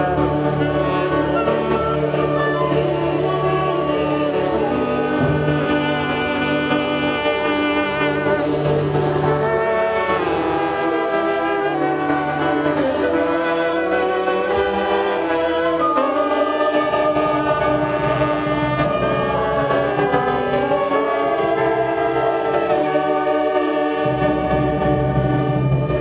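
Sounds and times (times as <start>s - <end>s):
choir singing sustained chords: 0.0s - 26.0s
instrumental accompaniment: 0.0s - 26.0s.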